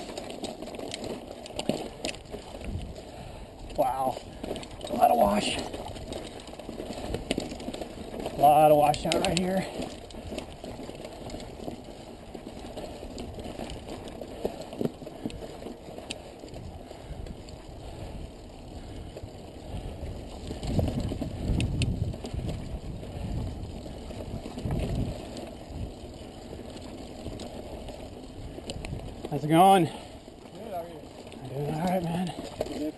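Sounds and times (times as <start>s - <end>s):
bike clicks and rattles: 0.0s - 32.9s
bike tyres rumbling on rocky trail: 0.0s - 32.9s.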